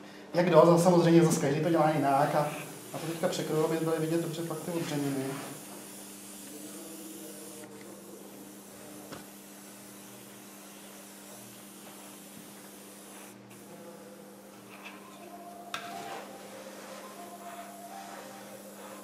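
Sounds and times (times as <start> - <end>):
airbrush air hiss: 1.6 - 14.9, 15.9 - 19.0.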